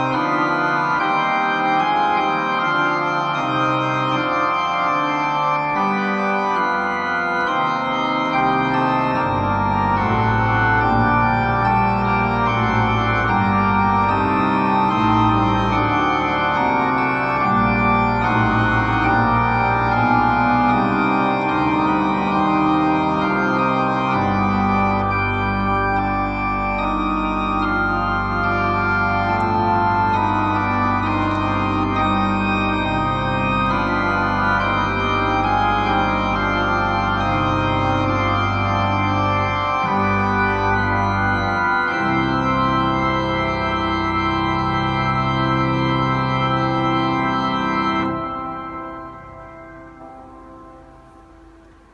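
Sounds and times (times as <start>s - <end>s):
electronic organ playing a fugue: 0.0s - 51.9s.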